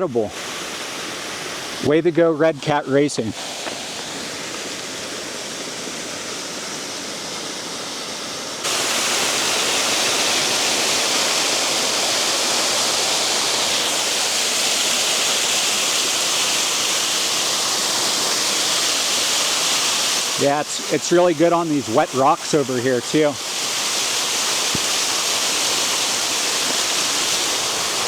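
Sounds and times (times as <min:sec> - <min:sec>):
mountain stream flowing: 0:00.0 - 0:28.0.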